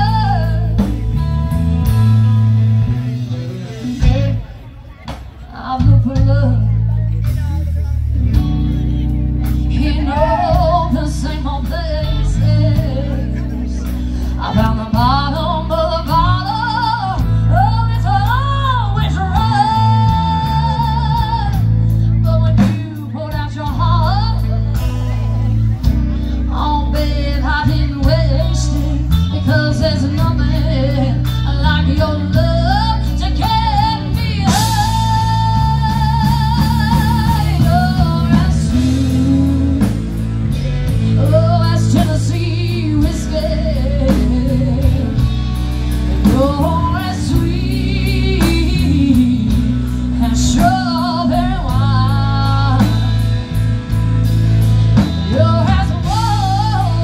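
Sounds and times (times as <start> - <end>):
blues-rock band playing: 0.0 - 57.0.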